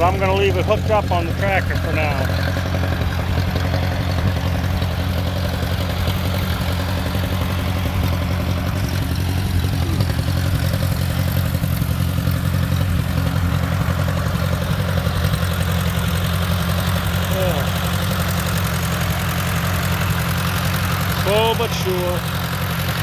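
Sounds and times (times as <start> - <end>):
small tractor engine running: 0.0 - 23.0.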